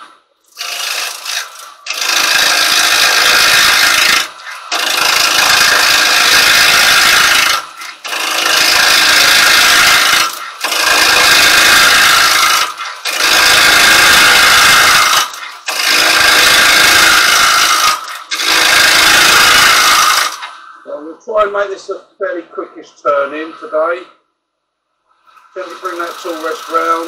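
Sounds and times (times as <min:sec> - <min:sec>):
lathe chisel scraping wood: 0:00.0 - 0:20.8, 0:25.4 - 0:27.0.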